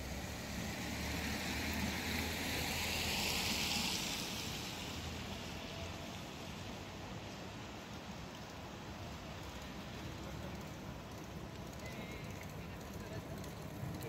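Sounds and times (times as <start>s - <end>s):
low traffic rumble: 0.0s - 14.0s
tyre hiss on wet road: 0.0s - 14.0s.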